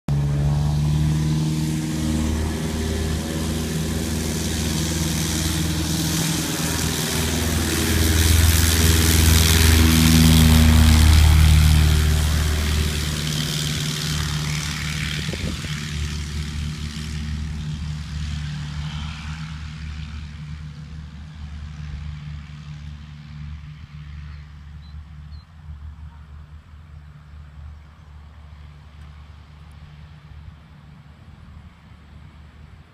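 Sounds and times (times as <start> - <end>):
propeller plane engine drone: 0.1 - 32.9.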